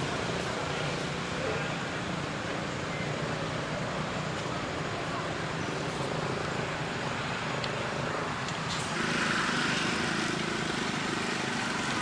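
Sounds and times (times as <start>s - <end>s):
vehicle engines passing: 0.0s - 12.0s.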